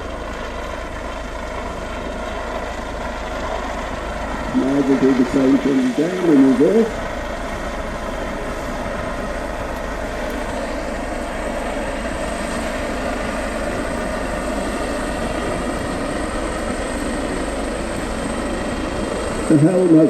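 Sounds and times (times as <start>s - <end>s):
helicopter hovering: 0.0s - 20.0s.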